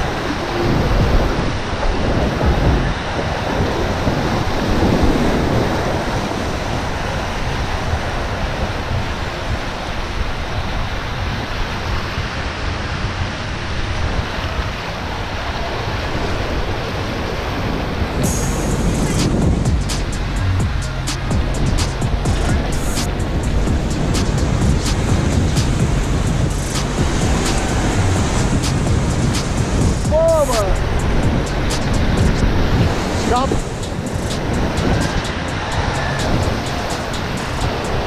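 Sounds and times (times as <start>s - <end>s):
fast river water rushing: 0.0s - 38.0s
wind buffeting microphone: 0.0s - 38.0s.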